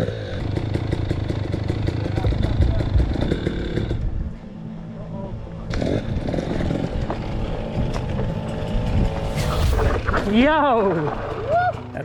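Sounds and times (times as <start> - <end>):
dirt bike engine running: 0.0 - 4.4, 5.7 - 12.0.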